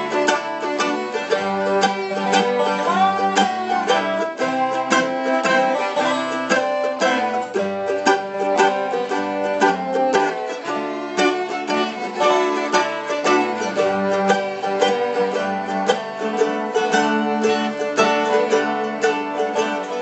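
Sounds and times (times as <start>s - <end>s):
plucked acoustic string music: 0.0s - 20.0s.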